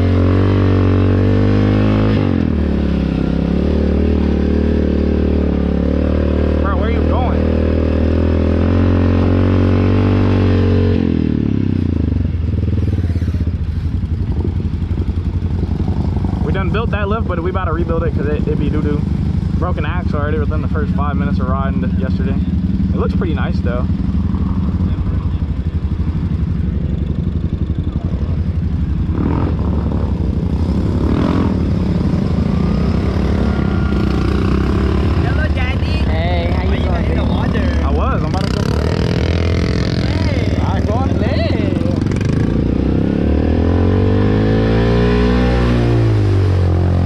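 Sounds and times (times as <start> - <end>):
atv engine revving down to idle: 0.0 - 47.0.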